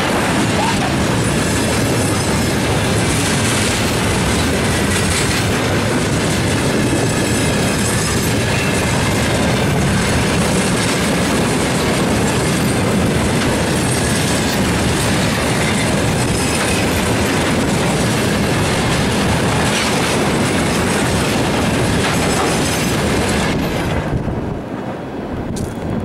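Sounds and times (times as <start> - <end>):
freight train wheels on rail: 0.0 - 26.0.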